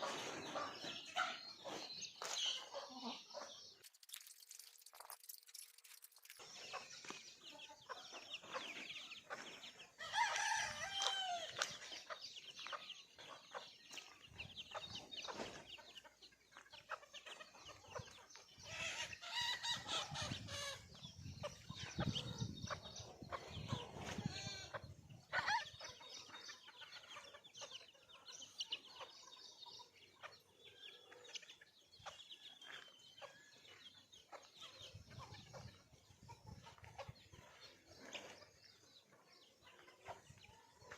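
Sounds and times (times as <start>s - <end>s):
chickens clucking and calling: 0.0s - 40.9s.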